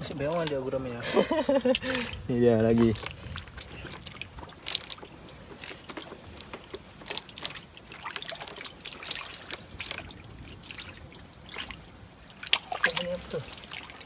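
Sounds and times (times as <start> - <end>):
shallow water trickling: 0.0 - 14.0
hands splashing in water: 1.7 - 14.0.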